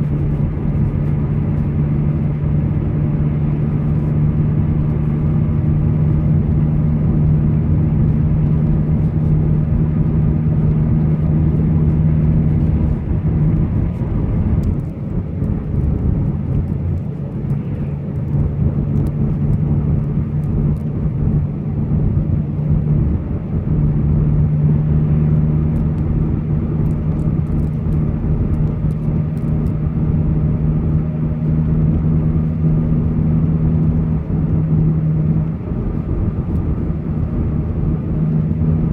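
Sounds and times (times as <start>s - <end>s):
car engine drone: 0.0s - 38.9s
tyre and road noise: 0.0s - 38.9s.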